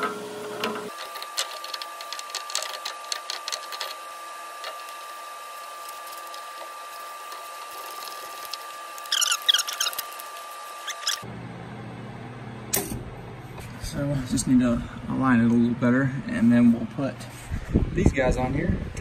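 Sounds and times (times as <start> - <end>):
high-pitched hum: 0.0 - 19.0.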